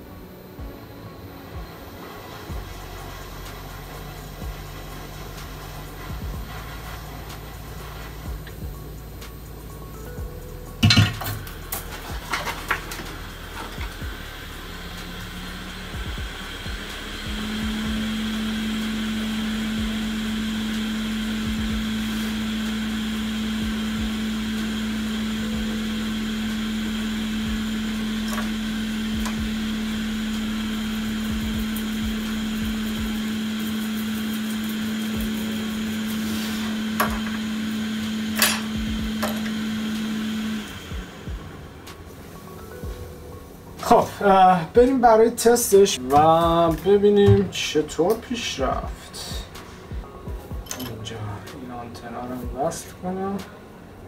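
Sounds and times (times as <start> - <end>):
electric blower motor running: 0.0 - 44.0.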